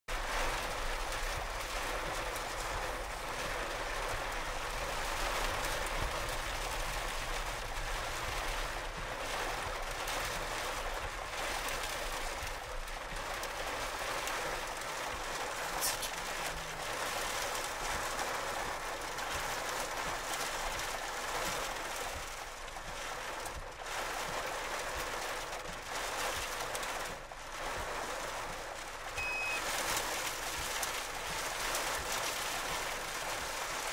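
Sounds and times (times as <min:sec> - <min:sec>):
heavy rain on a vehicle: 0:00.1 - 0:33.9
wind against a vehicle: 0:00.1 - 0:33.9.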